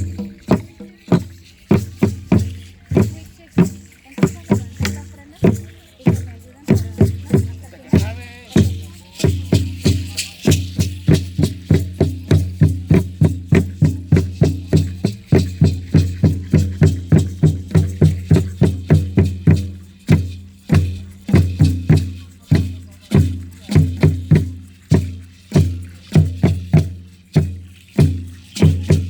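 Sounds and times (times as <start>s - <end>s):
large drum beaten fast: 0.0s - 29.0s
rattles shaking: 0.0s - 29.0s.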